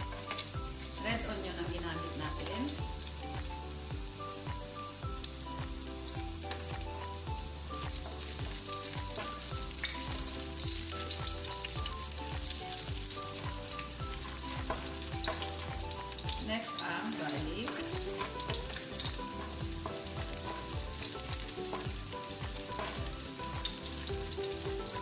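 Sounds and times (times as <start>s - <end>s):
onion sizzling in oil: 0.0s - 25.0s
soft music with steady beat: 0.0s - 25.0s.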